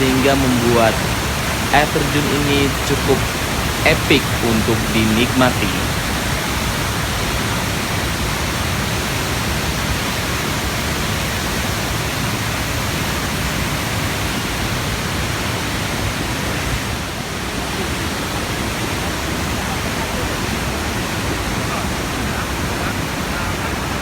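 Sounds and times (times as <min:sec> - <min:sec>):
waterfall crashing down: 0:00.0 - 0:24.0.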